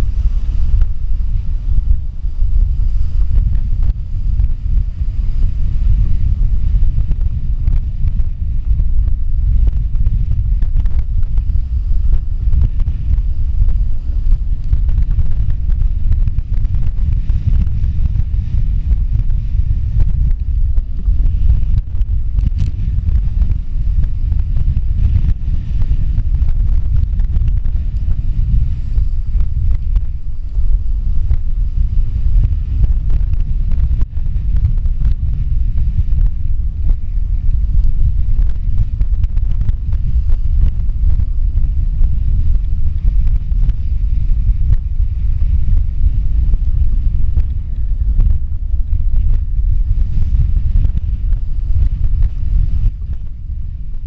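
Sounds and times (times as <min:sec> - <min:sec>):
waves breaking along hull: 0:00.0 - 0:54.0
wind buffeting microphone: 0:00.0 - 0:54.0.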